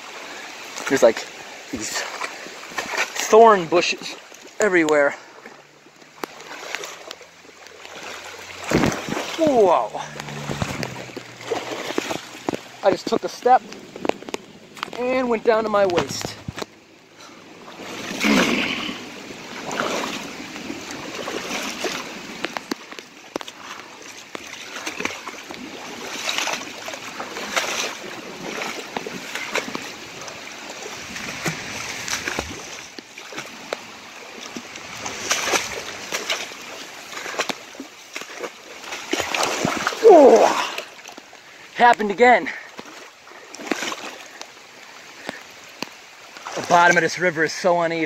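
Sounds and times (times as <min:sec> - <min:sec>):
rushing moving water: 0:00.0 - 0:48.0
wading splashes in water: 0:00.0 - 0:48.0.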